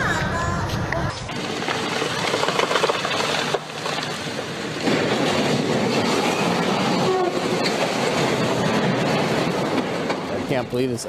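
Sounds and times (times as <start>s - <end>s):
train wheels rumbling and clattering: 0.0s - 11.0s.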